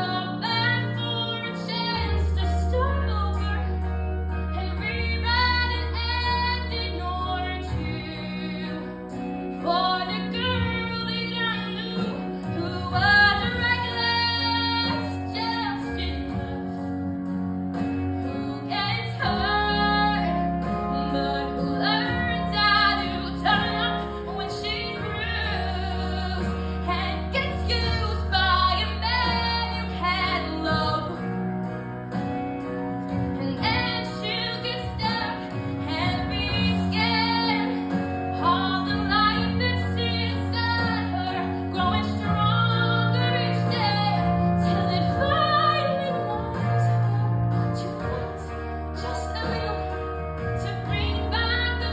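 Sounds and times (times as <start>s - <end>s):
girl singing into microphone: 0.0s - 16.9s, 18.2s - 31.3s, 33.3s - 51.9s
instrumental accompaniment: 0.0s - 51.9s.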